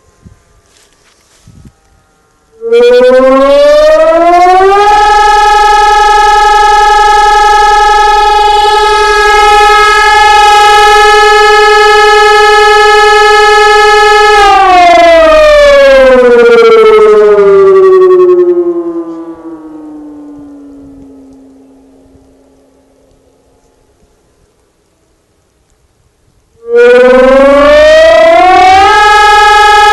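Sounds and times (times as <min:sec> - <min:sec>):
civil defence siren winding down: 0:00.0 - 0:25.4, 0:26.5 - 0:29.9.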